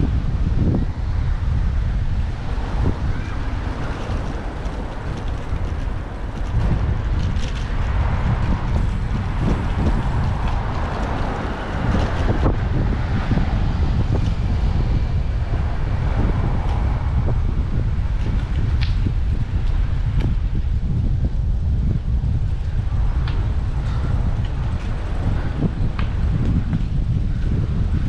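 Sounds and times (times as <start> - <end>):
street traffic: 0.0 - 28.0
wind buffeting microphone: 0.0 - 28.0.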